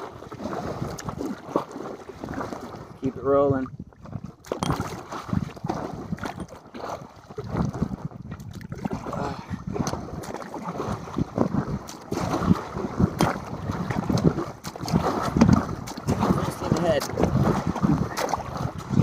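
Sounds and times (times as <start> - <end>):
water splashing around kayak: 0.0 - 19.0
wind buffeting microphone: 2.2 - 19.0.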